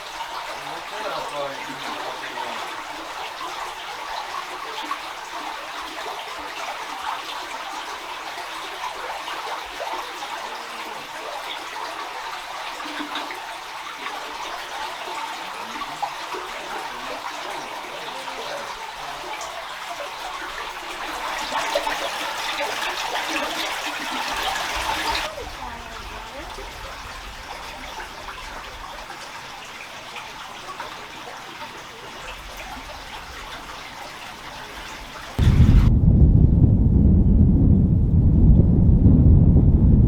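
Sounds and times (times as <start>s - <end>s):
spring water trickling over rocks: 0.0s - 35.8s.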